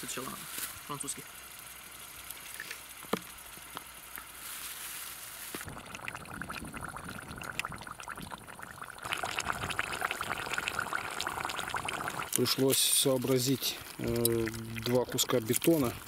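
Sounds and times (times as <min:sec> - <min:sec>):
meat frying in oil: 0:00.1 - 0:04.4, 0:05.6 - 0:16.0.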